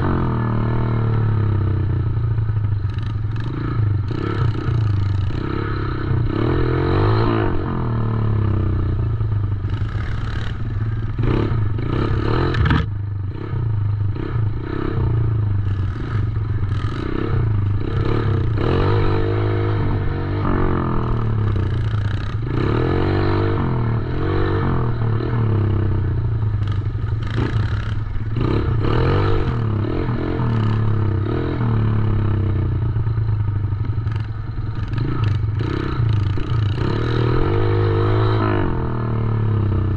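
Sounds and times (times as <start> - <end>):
dirt bike engine revving: 2.8 - 9.0, 9.6 - 33.0, 33.9 - 39.9.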